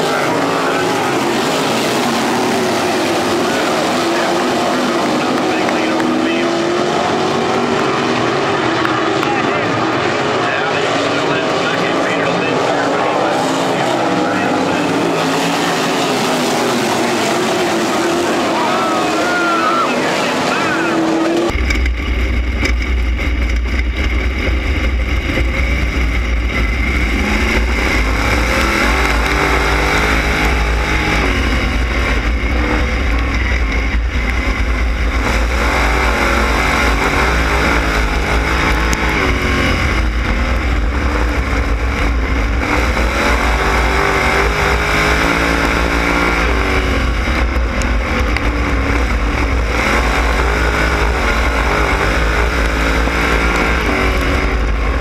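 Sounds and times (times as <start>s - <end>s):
race car engines roaring: 0.0s - 55.0s.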